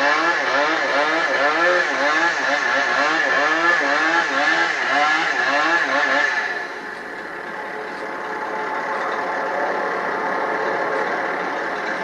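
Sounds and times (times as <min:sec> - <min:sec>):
chainsaw running at high speed: 0:00.0 - 0:12.0.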